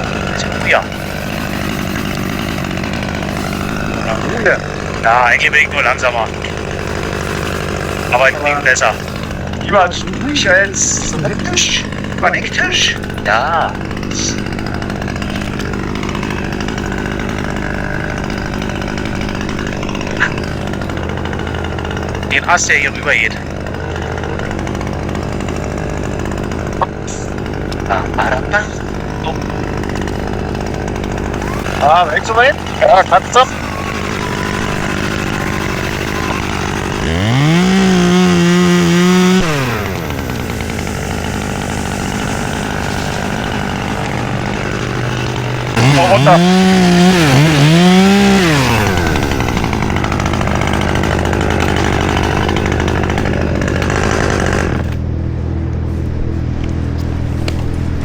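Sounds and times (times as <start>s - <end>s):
chainsaw engine running: 0.0s - 58.0s.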